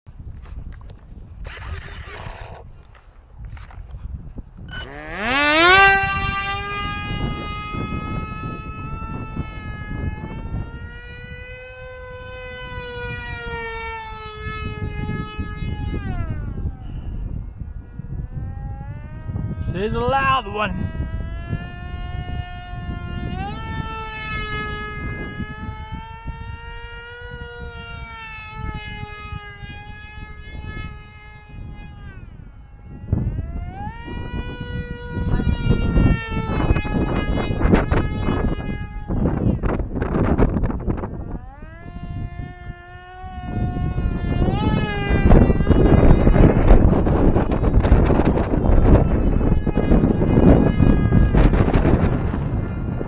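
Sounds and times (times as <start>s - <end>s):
wind buffeting microphone: 0.0s - 53.0s
electric motor and propeller whining: 0.2s - 53.0s.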